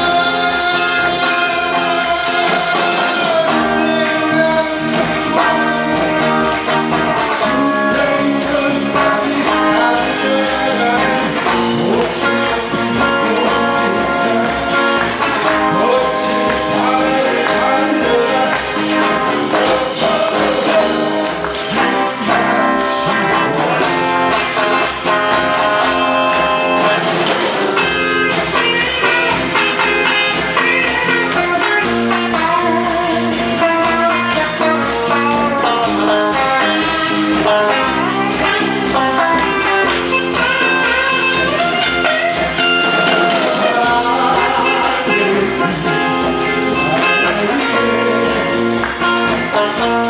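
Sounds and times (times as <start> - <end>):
drum beat: 0.0 - 50.0
guitar: 0.0 - 50.0
person singing: 0.0 - 50.0.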